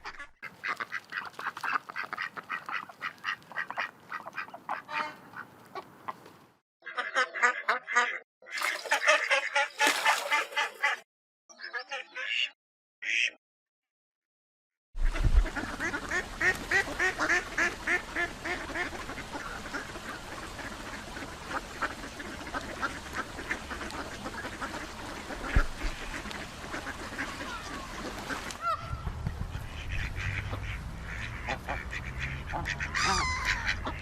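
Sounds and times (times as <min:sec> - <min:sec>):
ducks quacking: 0:00.0 - 0:05.9, 0:06.8 - 0:12.6, 0:15.0 - 0:34.0.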